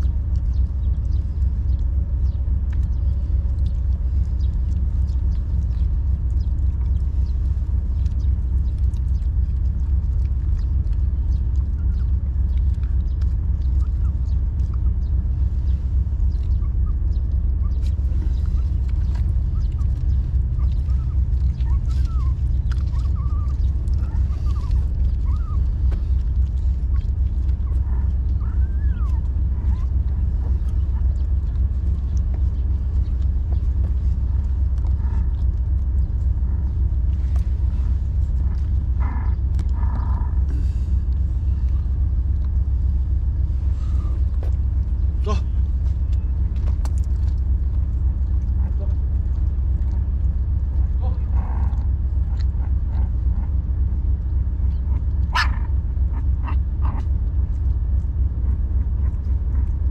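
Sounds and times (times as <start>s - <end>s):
loud low rumble: 0.0s - 59.9s.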